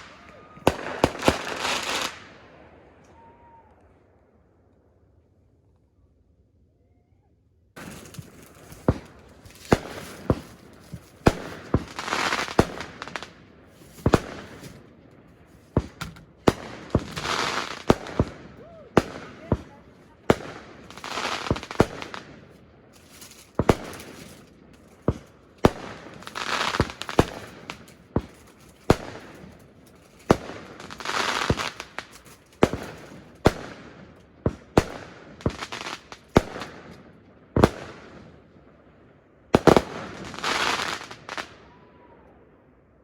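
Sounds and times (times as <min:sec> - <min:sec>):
fireworks crackling: 0:00.0 - 0:03.4, 0:07.8 - 0:38.5, 0:39.5 - 0:41.8
fireworks bangs: 0:00.0 - 0:03.6, 0:07.8 - 0:38.5, 0:39.5 - 0:42.1.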